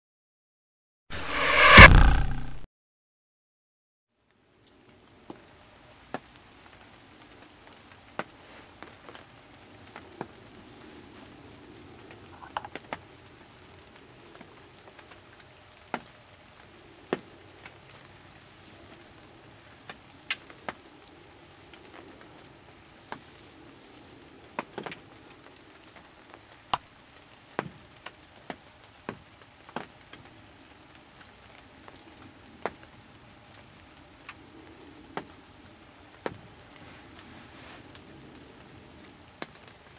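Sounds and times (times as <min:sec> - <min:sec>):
faint outdoor hiss: 0:04.1 - 0:39.9.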